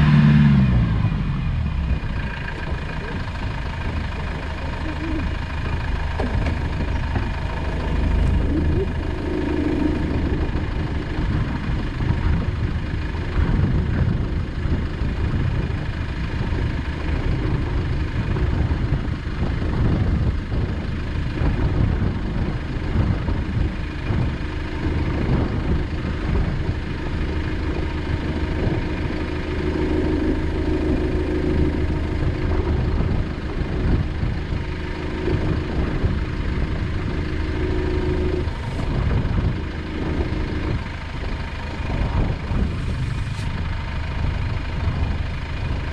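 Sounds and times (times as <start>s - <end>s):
diesel engine running at low revs: 0.0s - 45.9s.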